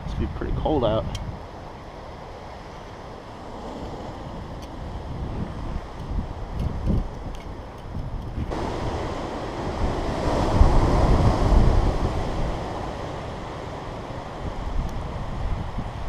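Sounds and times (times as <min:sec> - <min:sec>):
strong wind gusting: 0:00.0 - 0:16.0
wind buffeting microphone: 0:00.0 - 0:16.0.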